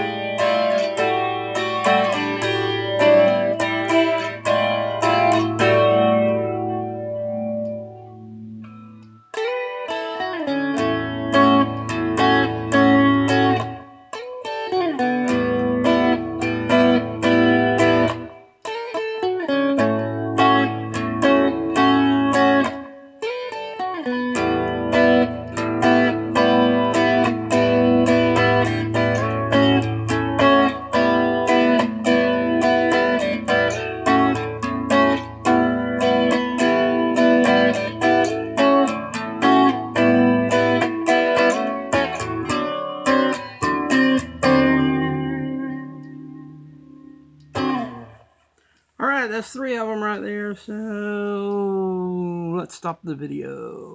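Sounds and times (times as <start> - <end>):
guitar plucked notes: 0.0 - 52.6.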